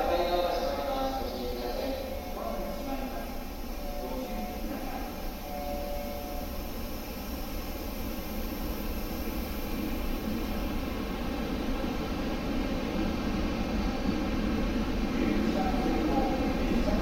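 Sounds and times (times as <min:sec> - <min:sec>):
electric train rushing hum: 0:00.0 - 0:17.0.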